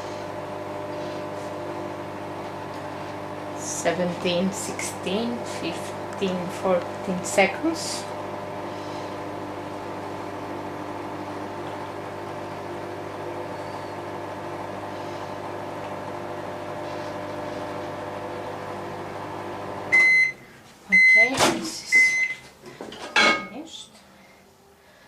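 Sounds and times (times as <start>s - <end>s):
microwave oven humming: 0.0s - 22.5s.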